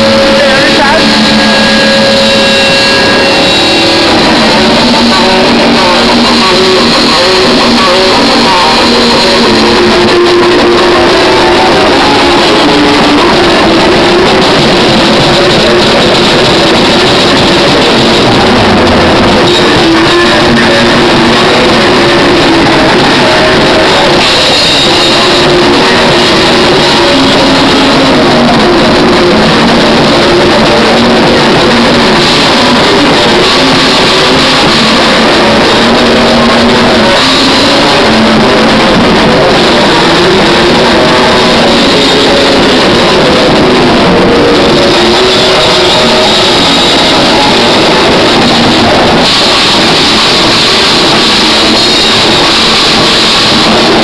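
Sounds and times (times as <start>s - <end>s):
bass guitar: 0.0s - 54.0s
drum kit: 0.0s - 54.0s
electric guitars: 0.0s - 54.0s.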